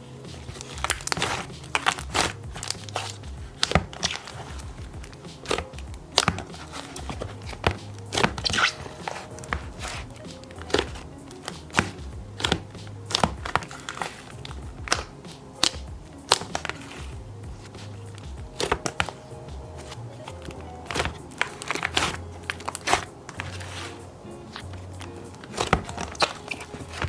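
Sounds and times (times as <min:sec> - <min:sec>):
background music: 0:00.0 - 0:27.0
slime squishing sticky pops: 0:00.5 - 0:23.9.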